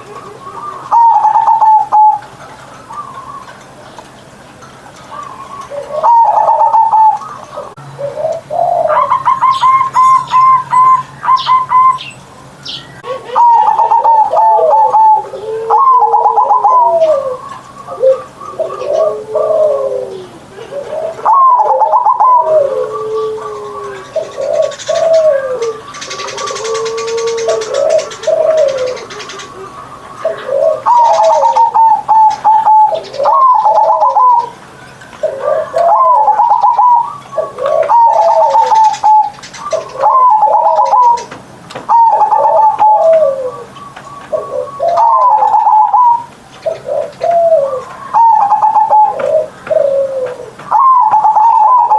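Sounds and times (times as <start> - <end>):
dove cooing: 0.0 - 4.0, 5.0 - 51.9.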